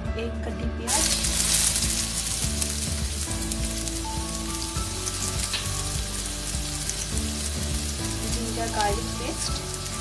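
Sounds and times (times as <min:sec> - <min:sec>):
onion sizzling in hot oil: 0:00.8 - 0:10.0.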